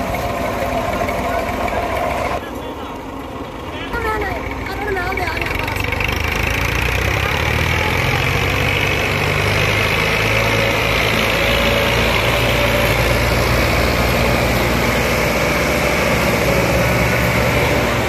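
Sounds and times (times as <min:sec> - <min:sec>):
diesel tractor engines under load: 0:00.0 - 0:18.0.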